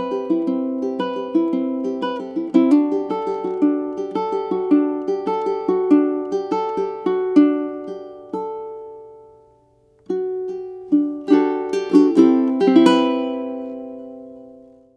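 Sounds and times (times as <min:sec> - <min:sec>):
plucked ukulele notes: 0:00.0 - 0:14.9.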